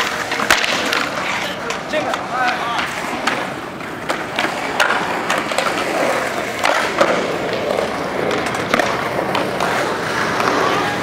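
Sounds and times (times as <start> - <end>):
skateboard wheels rolling on concrete: 0.0 - 11.0
skateboards clacking on ground: 0.0 - 11.0.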